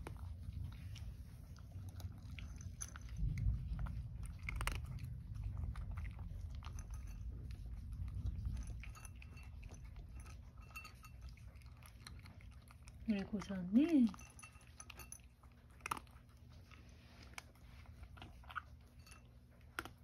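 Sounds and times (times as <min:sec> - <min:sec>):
cat crunching dry kibble: 0:00.0 - 0:20.0.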